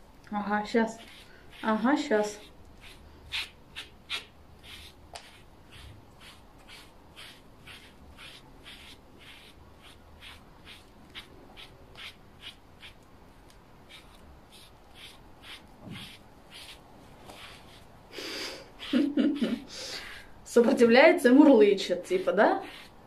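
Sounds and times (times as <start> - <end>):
brush raking through fur: 1.0 - 13.0, 13.8 - 19.8, 21.9 - 23.0.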